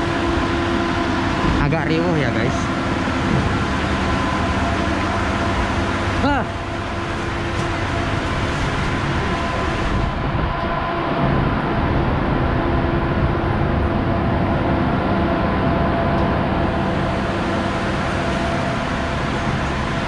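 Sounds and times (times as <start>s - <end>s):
constant hum tones: 0.0s - 20.0s
trains rumbling and droning: 0.0s - 20.0s.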